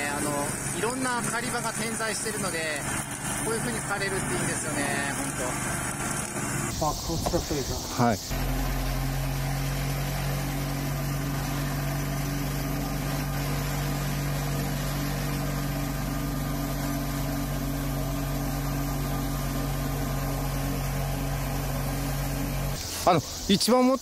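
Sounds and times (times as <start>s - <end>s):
excavator running under load: 0.0s - 23.2s
mower shredding vines and weeds: 0.0s - 24.0s.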